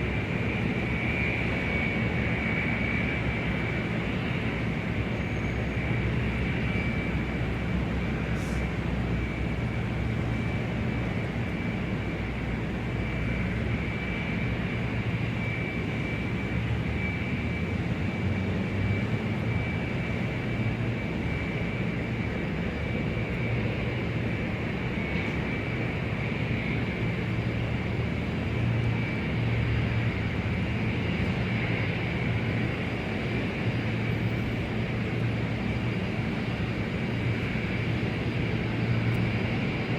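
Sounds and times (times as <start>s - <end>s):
aircraft engine whine and rumble: 0.0s - 39.9s.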